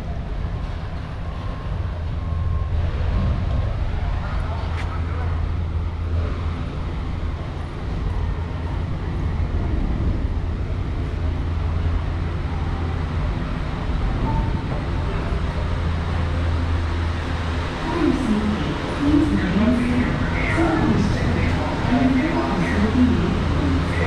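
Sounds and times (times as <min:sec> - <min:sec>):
vehicle hum and rumble: 0:00.0 - 0:24.0.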